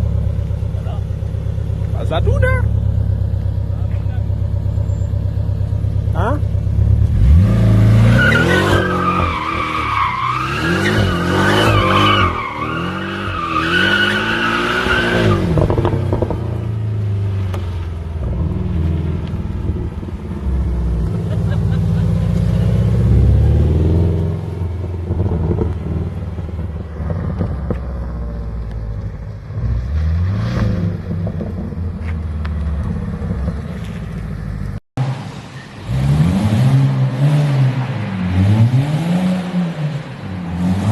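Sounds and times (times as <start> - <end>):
sports car engines revving: 0.0 - 40.9.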